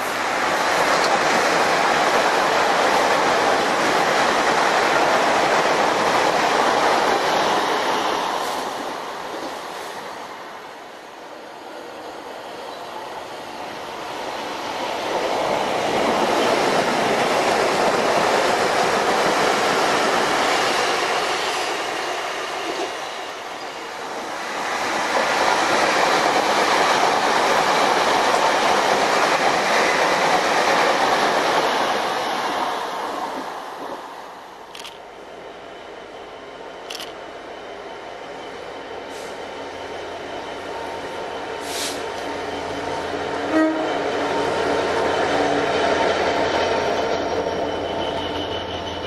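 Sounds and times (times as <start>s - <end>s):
trains passing on rails: 0.0s - 49.0s.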